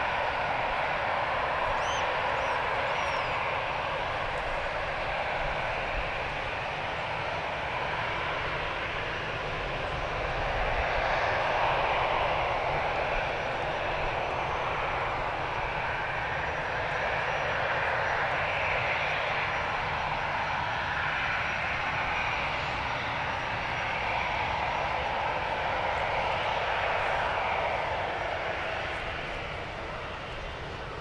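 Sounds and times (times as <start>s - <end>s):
faint high whine: 0.0s - 31.0s
jet engines rushing: 0.0s - 31.0s.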